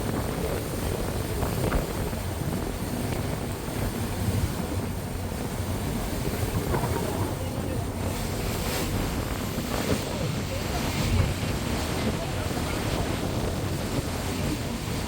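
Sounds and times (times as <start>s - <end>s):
water noise from boat: 0.0s - 15.0s
wind rushing over microphone: 0.0s - 15.0s.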